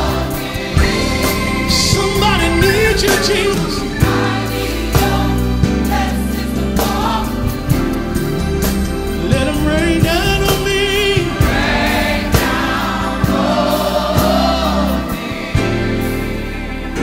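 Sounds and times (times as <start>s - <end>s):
choir singing held notes: 0.0s - 17.0s
instrumental backing: 0.0s - 17.0s.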